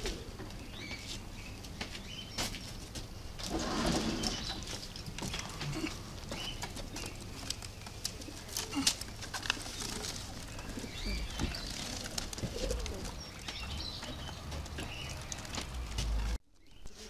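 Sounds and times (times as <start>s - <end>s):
pigeons cooing: 0.0s - 1.2s, 3.2s - 16.4s.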